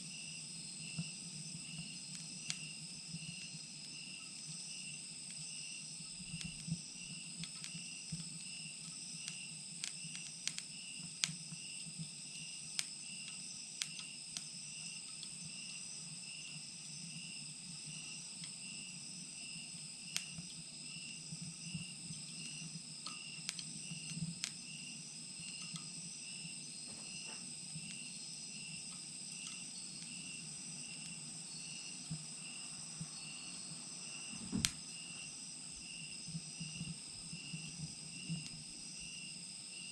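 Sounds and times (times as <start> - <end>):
insects chirping: 0.0 - 39.9
wood fire crackling and popping: 0.8 - 15.7, 16.3 - 38.8.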